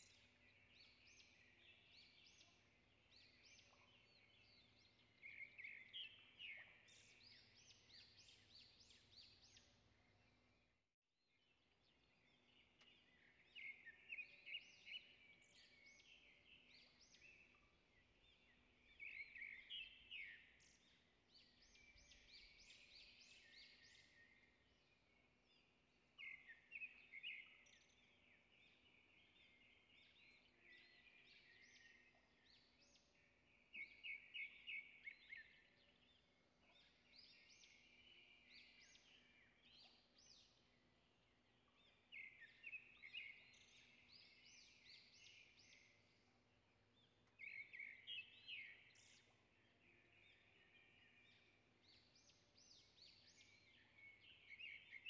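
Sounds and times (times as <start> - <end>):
faint bird chirping: 0.0 - 10.8, 11.4 - 55.0.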